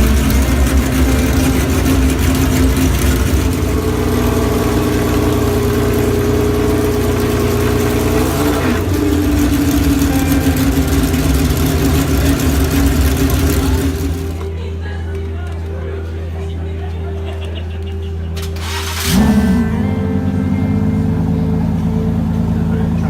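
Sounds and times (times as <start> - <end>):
car engine running: 0.0 - 14.5, 18.5 - 23.0.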